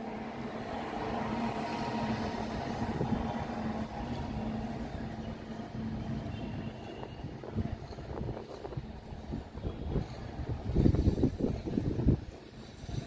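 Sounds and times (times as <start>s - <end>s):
train wheels rumbling on rails: 0.0s - 6.3s, 6.9s - 13.0s
electric locomotive hum: 0.0s - 13.0s.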